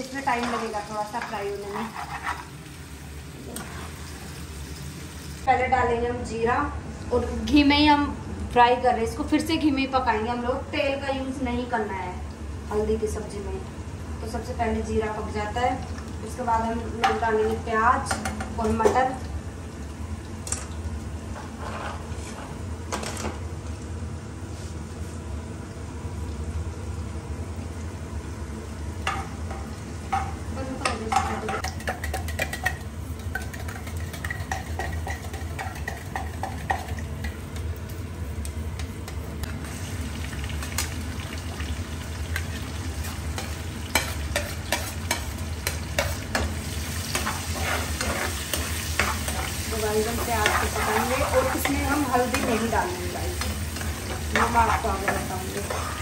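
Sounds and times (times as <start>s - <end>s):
frying sizzle: 0.0s - 5.5s, 11.2s - 56.0s.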